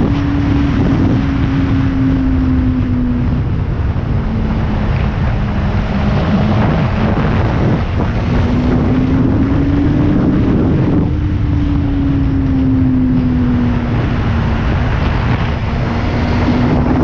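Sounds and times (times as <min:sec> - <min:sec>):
motorcycle engine cruising: 0:00.0 - 0:17.0
wind rush on microphone: 0:00.0 - 0:17.0.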